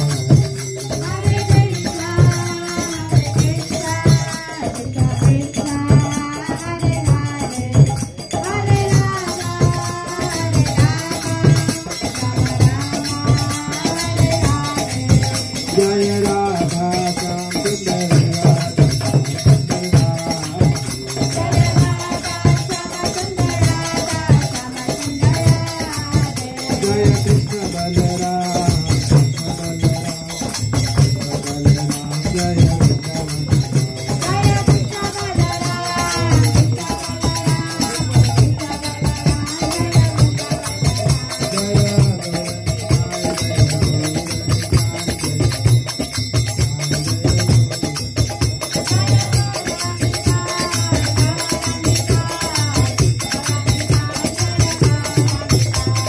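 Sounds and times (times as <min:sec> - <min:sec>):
hand cymbals jingling: 0:00.0 - 0:56.0
steady drum beat: 0:00.0 - 0:56.0.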